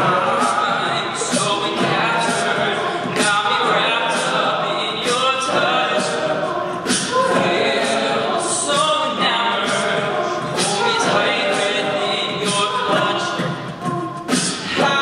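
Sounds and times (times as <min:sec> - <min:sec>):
beatboxed percussion hits: 0:00.0 - 0:15.0
male a cappella singing: 0:00.0 - 0:15.0.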